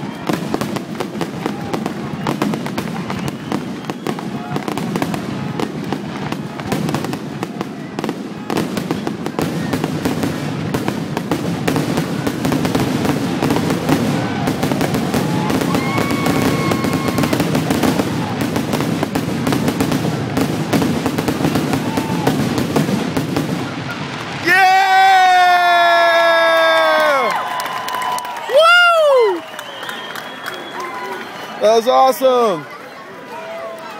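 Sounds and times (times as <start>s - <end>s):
fireworks bangs and crackles: 0.0s - 28.1s.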